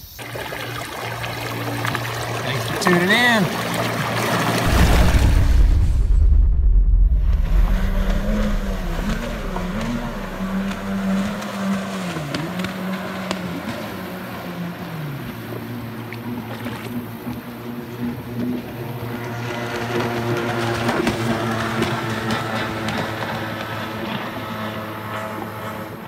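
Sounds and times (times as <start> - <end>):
jet ski engine: 0.0 - 4.7, 7.4 - 26.0.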